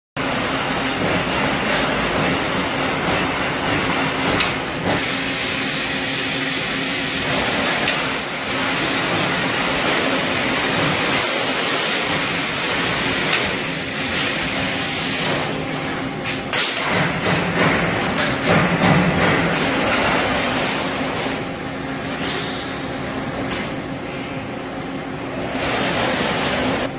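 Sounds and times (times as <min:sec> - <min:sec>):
machine running: 0:00.2 - 0:26.9.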